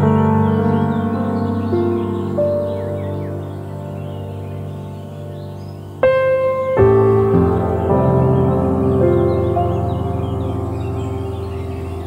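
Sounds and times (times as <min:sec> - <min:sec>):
slow ambient music: 0:00.0 - 0:12.0.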